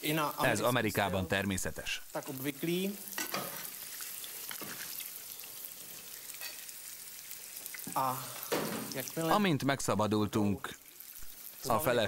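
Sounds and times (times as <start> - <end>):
hot oil sizzling in a frying pan: 0.0 - 12.0.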